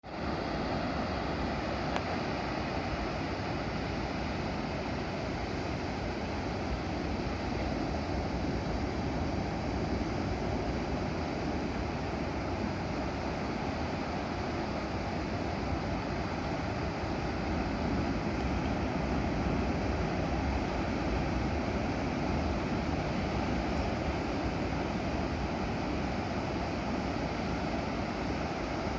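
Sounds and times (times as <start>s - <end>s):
surf breaking on shore: 0.0s - 28.9s
wind blowing across microphone: 0.0s - 28.9s.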